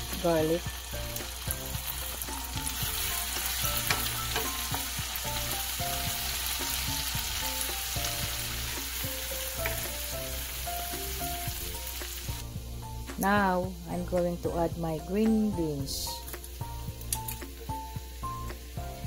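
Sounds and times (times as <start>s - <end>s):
garlic sizzling in oil: 0.0s - 19.0s.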